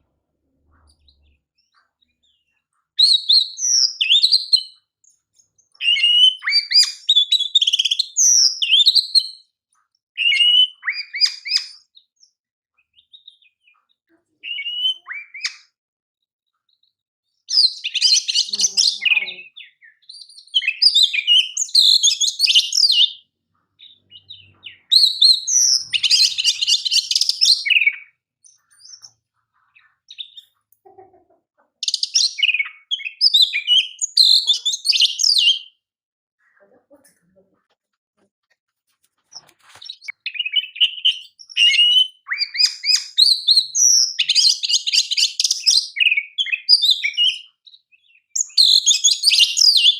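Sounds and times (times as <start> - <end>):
songbird singing whistled phrases: 0.9 - 9.5, 10.2 - 15.8, 17.5 - 29.2, 30.1 - 30.5, 31.8 - 35.8, 39.3 - 49.9.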